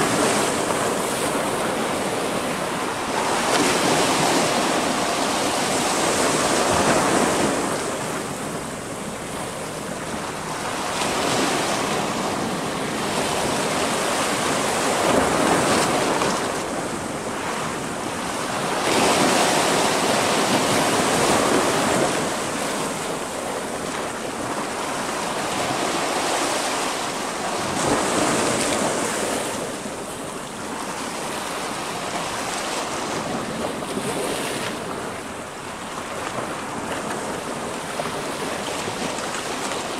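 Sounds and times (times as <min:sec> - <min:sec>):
sea waves breaking on rocks: 0:00.0 - 0:39.9.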